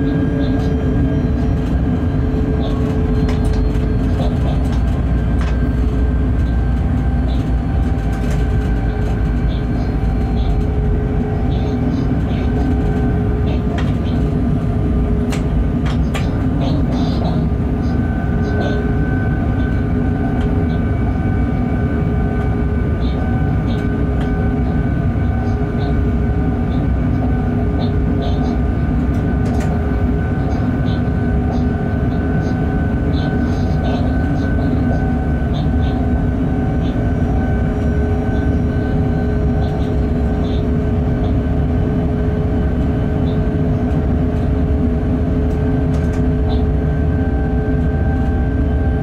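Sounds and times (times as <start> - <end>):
humming machinery tones: 0.0 - 49.0
rumble of wheels on rail: 0.0 - 49.0.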